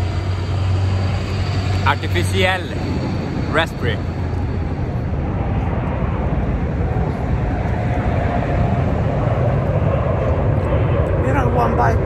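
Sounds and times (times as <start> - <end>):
faint steady whine: 0.0 - 12.0
passing engine rumble: 0.0 - 12.0.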